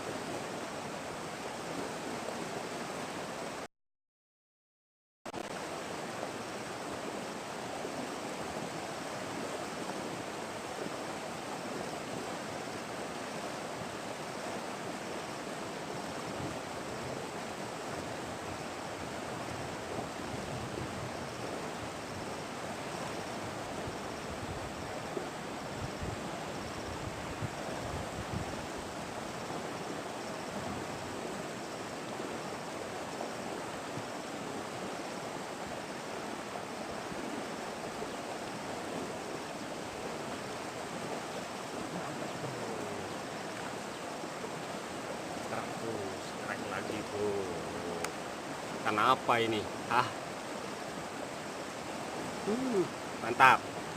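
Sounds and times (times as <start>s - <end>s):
flowing river water: 0.0s - 3.7s, 5.3s - 53.9s.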